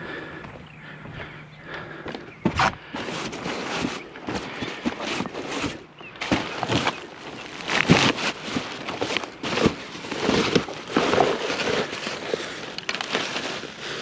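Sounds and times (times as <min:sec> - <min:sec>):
junk rustling and clattering: 0:02.4 - 0:14.0.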